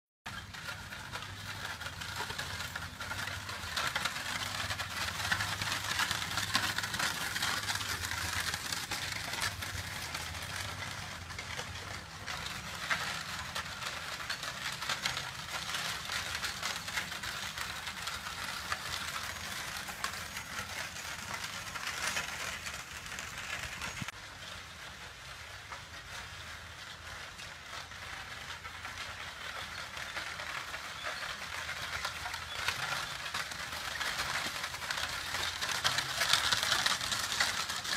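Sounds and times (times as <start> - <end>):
carriage wheels crunching on gravel: 0.2 - 37.9
horse hoof steps: 0.3 - 37.9.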